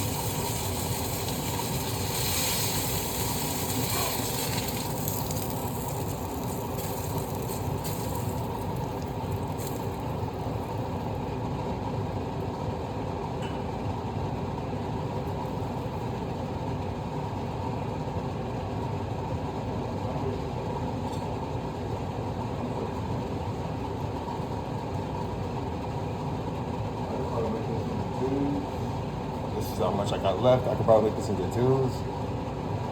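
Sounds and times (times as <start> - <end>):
kitchen exhaust fan running: 0.0 - 32.9.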